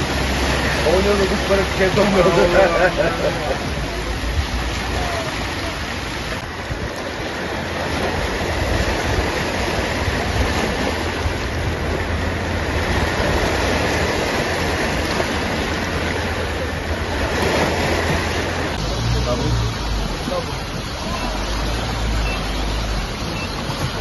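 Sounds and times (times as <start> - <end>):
small waves washing onto shore: 0.0 - 24.0.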